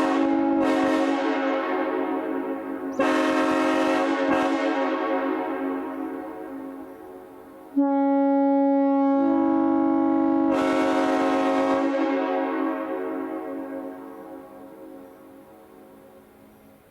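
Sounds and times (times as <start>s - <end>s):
train horn blast: 0.0s - 16.6s.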